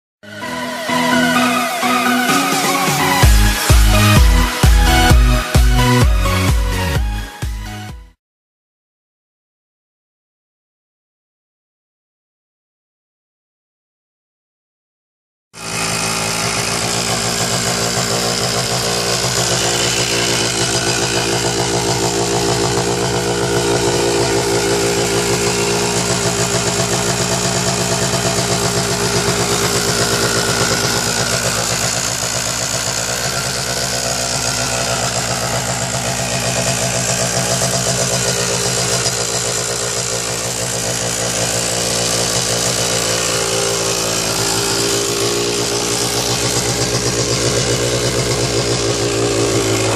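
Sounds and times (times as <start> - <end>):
two-stroke engine idling: 0.4 - 7.3, 15.6 - 49.9.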